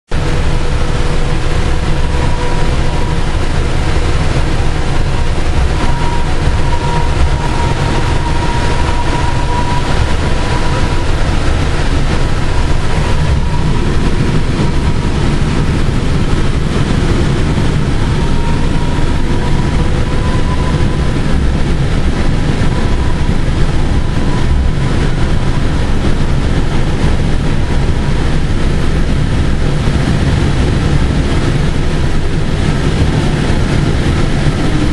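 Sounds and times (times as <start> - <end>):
thin steady whine: 0.1 - 34.9
train low rumble: 0.1 - 34.9.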